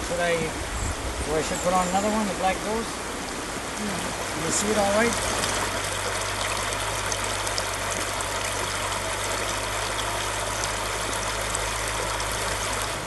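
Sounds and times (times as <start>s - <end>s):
low steady hum: 0.0s - 13.0s
river water rushing: 0.0s - 13.0s.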